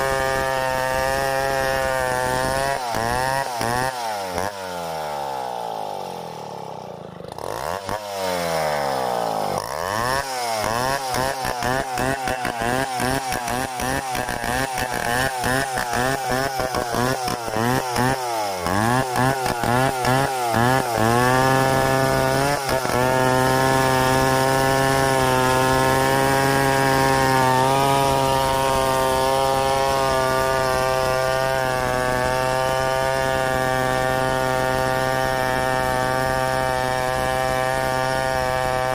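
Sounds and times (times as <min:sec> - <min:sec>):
chainsaw milling a log: 0:00.0 - 0:38.9.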